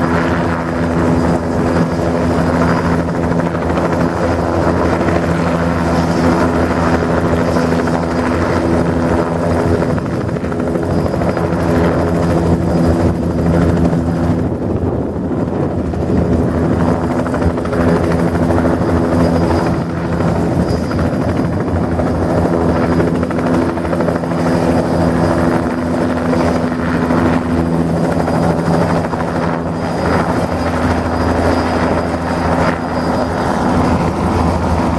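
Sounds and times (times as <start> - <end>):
helicopter turbine and rotors humming: 0.0 - 34.9.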